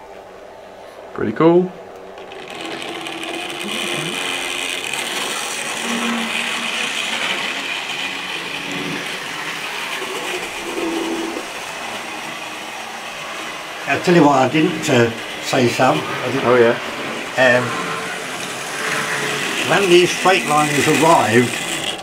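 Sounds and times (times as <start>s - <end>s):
model train motor whirring: 2.1s - 22.0s.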